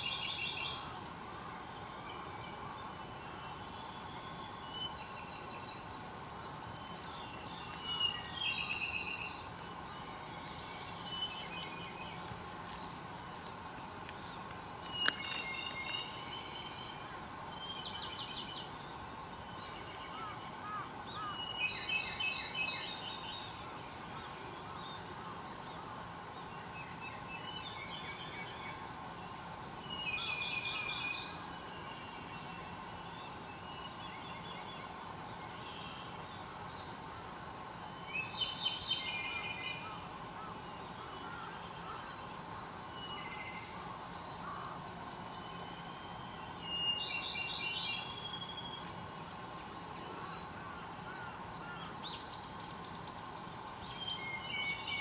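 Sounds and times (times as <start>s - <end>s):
faint steady hum: 0.0s - 55.0s
songbirds singing: 0.0s - 55.0s.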